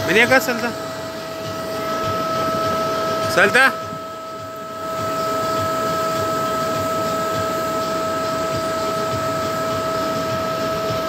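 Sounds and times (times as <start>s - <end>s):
electric blower fan drone: 0.0s - 11.0s.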